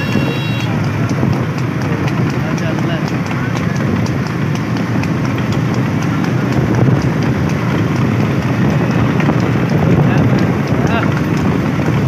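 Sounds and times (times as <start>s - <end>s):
wind noise: 0.0s - 2.3s, 3.5s - 12.0s
horse hooves trotting on road: 0.0s - 12.0s
vehicle engine rumble: 0.0s - 12.0s.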